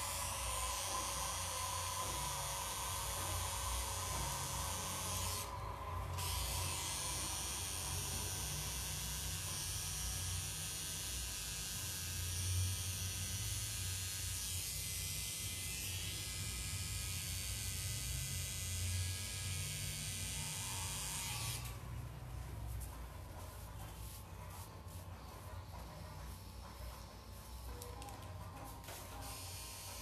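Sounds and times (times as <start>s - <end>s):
tattoo machine buzzing: 0.0s - 23.0s, 23.6s - 30.0s.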